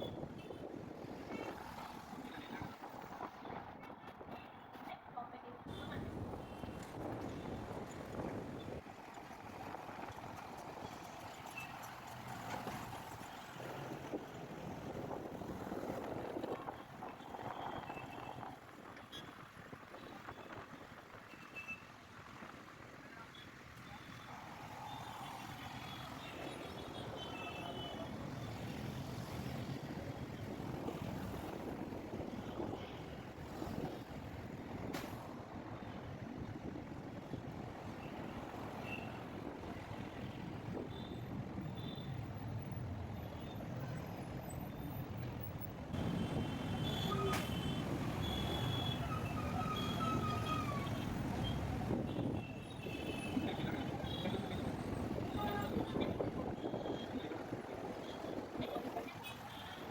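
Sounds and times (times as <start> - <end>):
road traffic rumble: 0.0 - 21.3, 21.9 - 59.9.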